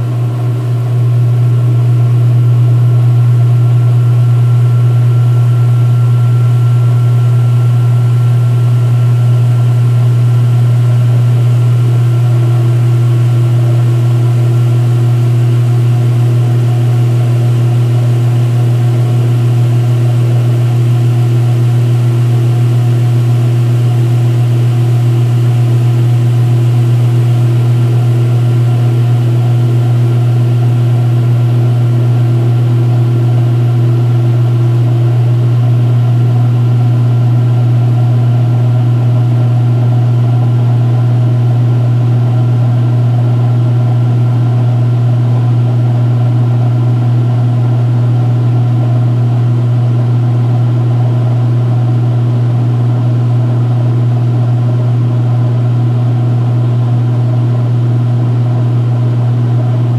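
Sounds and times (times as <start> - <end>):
washing machine spinning hum: 0.0 - 59.9.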